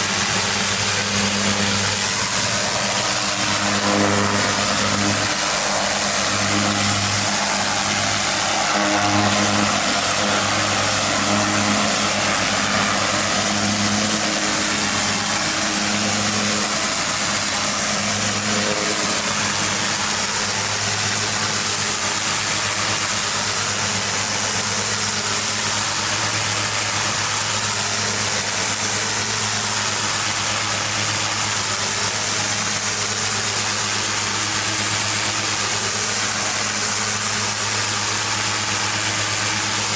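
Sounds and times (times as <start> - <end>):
pressure washer engine running: 0.0 - 39.9
water jet hissing on concrete: 0.0 - 39.9.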